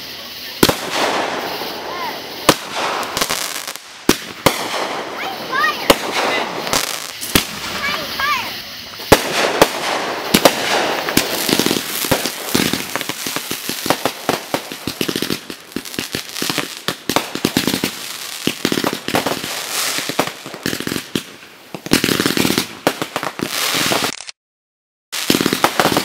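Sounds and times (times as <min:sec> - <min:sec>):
fireworks cracking and popping: 0:00.0 - 0:24.4, 0:25.2 - 0:26.0.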